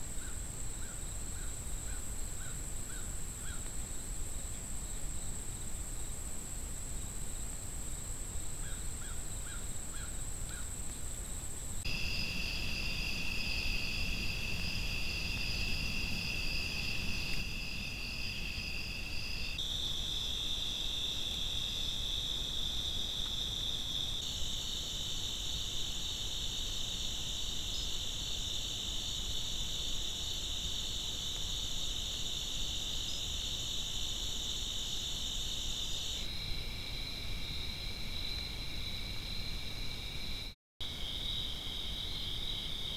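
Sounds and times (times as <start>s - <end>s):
night insects trilling: 0.0s - 42.9s.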